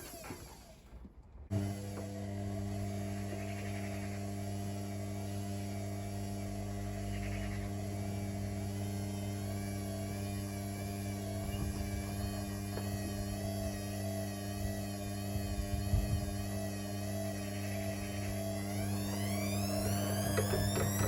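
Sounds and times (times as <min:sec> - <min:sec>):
washing machine humming: 0:01.5 - 0:21.0.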